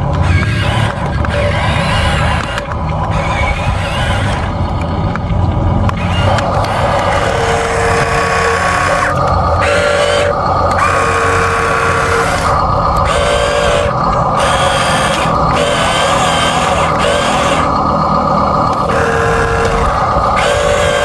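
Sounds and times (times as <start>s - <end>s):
rc bulldozer motors whining: 0.0s - 21.0s.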